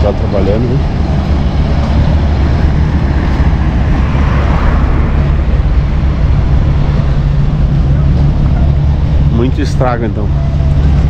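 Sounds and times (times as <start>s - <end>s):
vehicle and road rumble: 0.0s - 11.0s.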